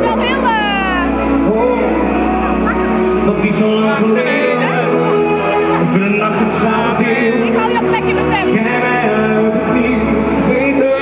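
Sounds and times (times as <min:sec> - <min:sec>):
deep bass: 0:00.0 - 0:11.0
live pop band music: 0:00.0 - 0:11.0
man singing lead vocal: 0:00.0 - 0:11.0
piano: 0:00.0 - 0:11.0.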